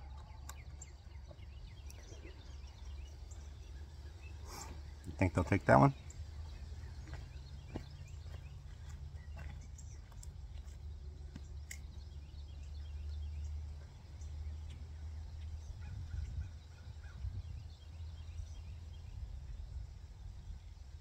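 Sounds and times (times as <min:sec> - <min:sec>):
faint bird calls: 0:00.0 - 0:19.2.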